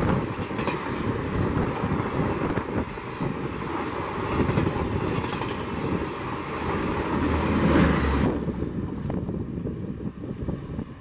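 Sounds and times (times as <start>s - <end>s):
train wheels rushing on rails: 0.0s - 9.6s.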